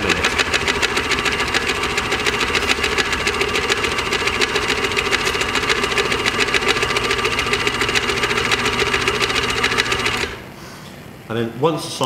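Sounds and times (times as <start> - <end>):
paddle blender beating bag: 0.0 - 10.4.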